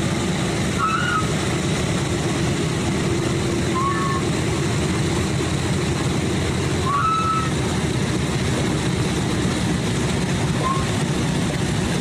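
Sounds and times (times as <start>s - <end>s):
radial engines droning: 0.0s - 12.0s.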